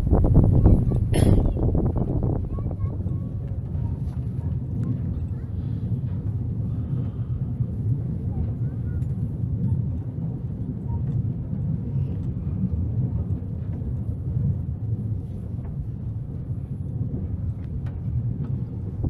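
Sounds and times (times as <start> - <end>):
horse-drawn tram running on rails: 0.0 - 19.0
wind buffeting microphone: 0.0 - 19.0.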